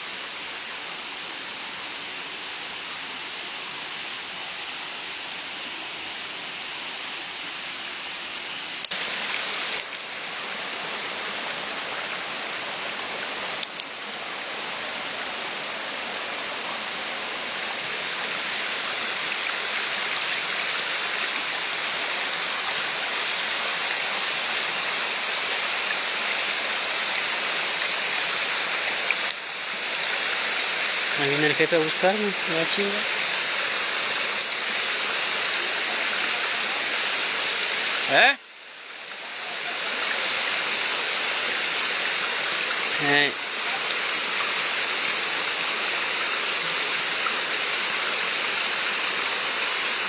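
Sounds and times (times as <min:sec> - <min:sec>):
running water: 0:00.0 - 0:50.0.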